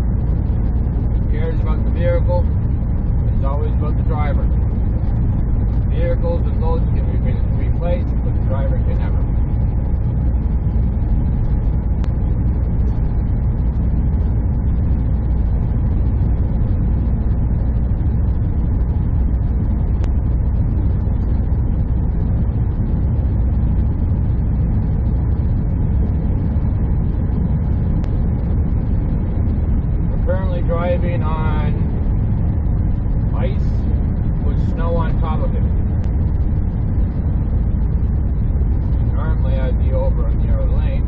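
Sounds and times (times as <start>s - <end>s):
truck engine drone: 0.0s - 41.0s.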